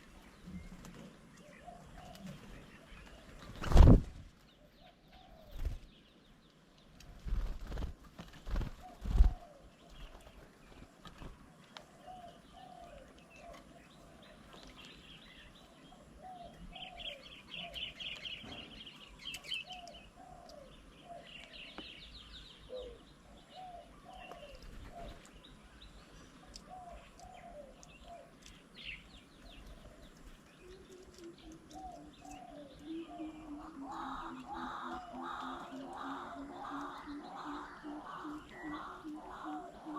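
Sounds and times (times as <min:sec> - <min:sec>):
birds cooing: 0:00.0 - 0:06.1, 0:07.1 - 0:39.9.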